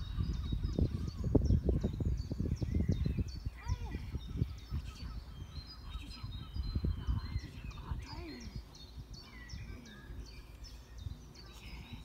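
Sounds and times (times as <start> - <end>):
birds chirping: 0.0 - 12.0
wind rumbling on microphone: 0.0 - 12.0.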